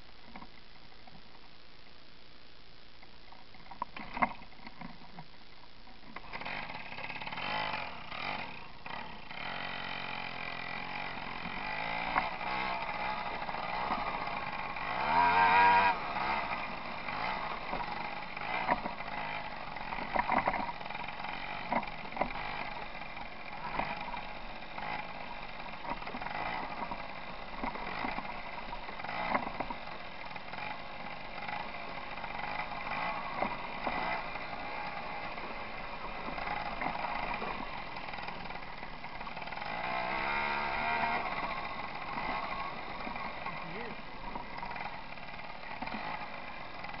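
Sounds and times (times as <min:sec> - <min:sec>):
moped engine running: 0:03.4 - 0:05.4, 0:06.0 - 0:47.0.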